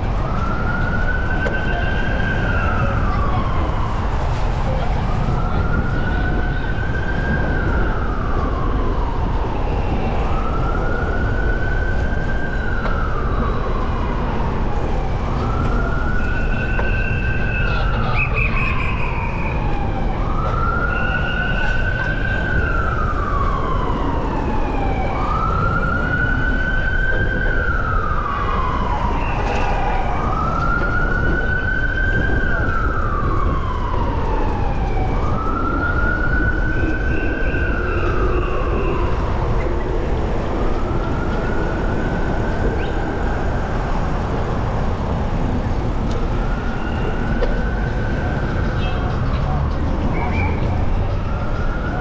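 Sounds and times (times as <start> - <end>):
emergency siren wailing: 0.0 - 52.0
low rumble of street noise: 0.0 - 52.0.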